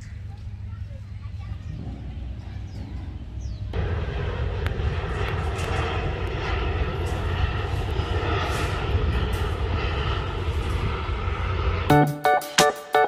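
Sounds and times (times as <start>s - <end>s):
jet airliner engines droning: 0.0s - 13.0s.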